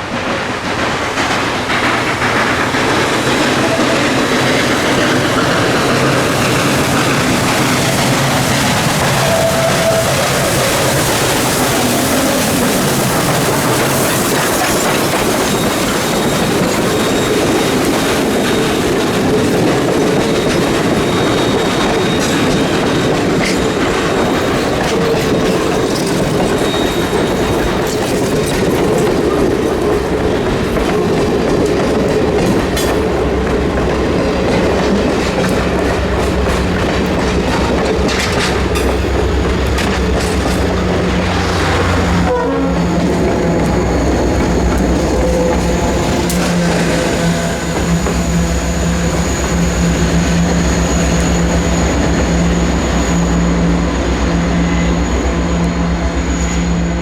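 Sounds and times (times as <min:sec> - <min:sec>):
wheels clicking over rail joints: 0:00.0 - 0:52.4
train rumbling past: 0:00.0 - 0:57.0.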